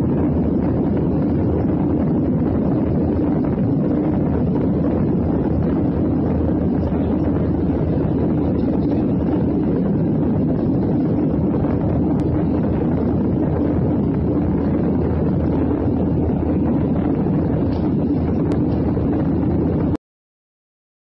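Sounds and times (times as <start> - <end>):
jet airliner cabin drone: 0.0 - 20.0.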